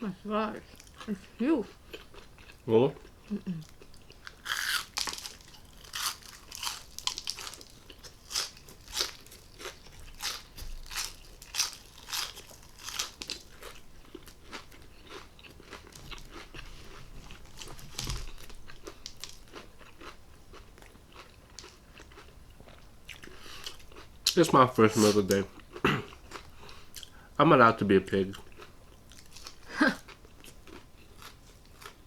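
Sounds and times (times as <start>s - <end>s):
crunching and chewing crunchy food: 0.6s - 32.0s.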